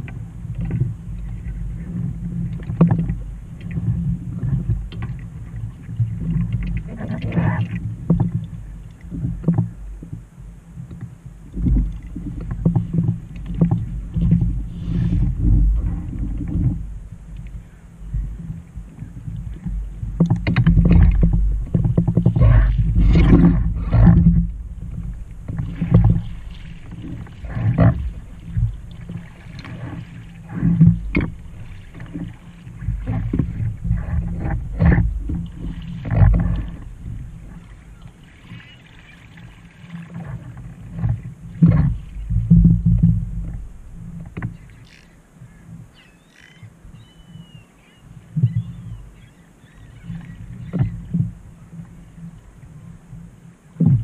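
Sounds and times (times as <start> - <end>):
water slapping against kayak hull: 0.0 - 47.5, 48.2 - 54.0
paddle blades splashing: 0.0 - 54.0.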